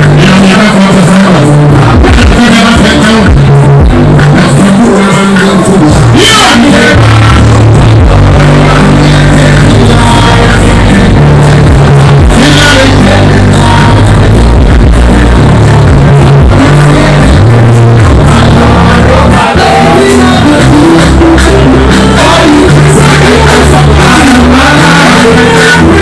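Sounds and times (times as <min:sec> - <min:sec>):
heavy bassline: 0:00.0 - 0:26.0
person singing: 0:00.0 - 0:26.0.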